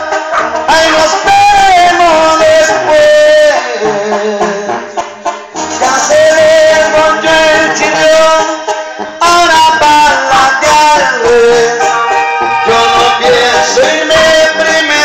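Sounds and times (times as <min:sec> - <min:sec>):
karaoke backing track: 0:00.0 - 0:15.0
man singing into a microphone: 0:00.0 - 0:15.0.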